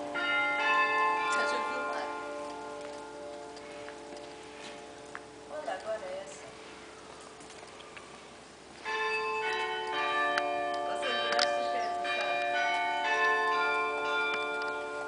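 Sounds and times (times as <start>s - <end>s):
church bells ringing: 0.0s - 6.4s, 8.8s - 15.0s.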